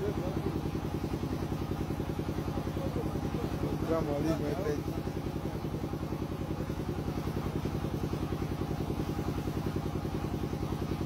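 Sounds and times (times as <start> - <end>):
engine running with rapid pulse: 0.0 - 11.0.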